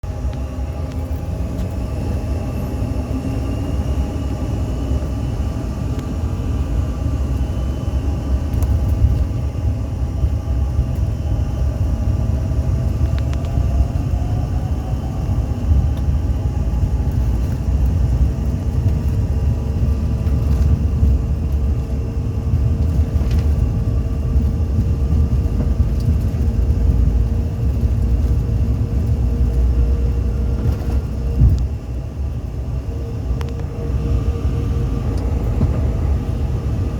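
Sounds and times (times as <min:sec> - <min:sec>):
aircraft engines rumbling: 0:00.0 - 0:36.9.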